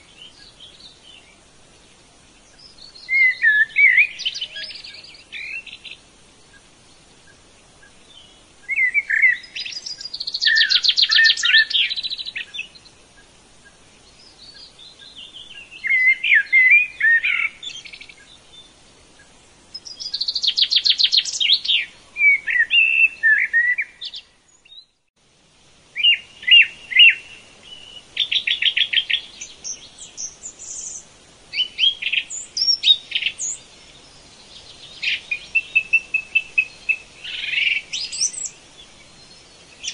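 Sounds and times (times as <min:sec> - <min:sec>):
songbird chirping and trilling: 0:00.0 - 0:25.1, 0:25.8 - 0:39.9.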